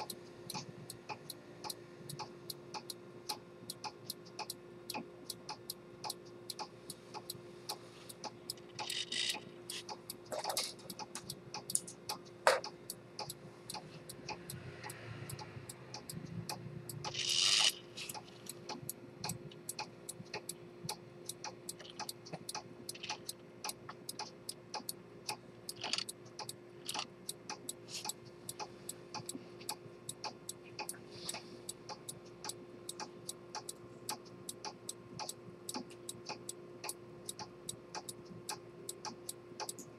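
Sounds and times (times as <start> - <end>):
pocket watch ticking: 0.0 - 39.9.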